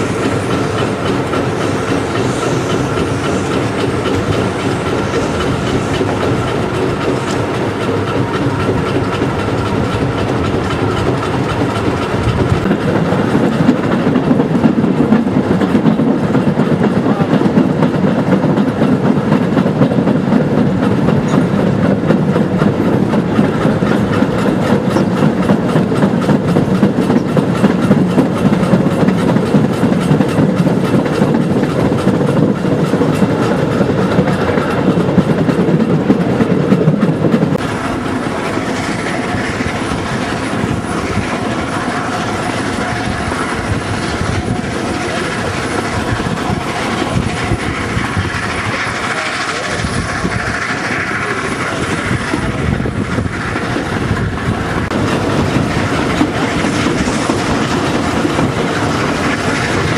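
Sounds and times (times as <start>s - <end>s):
train wheels clattering over track: 0.0s - 59.9s.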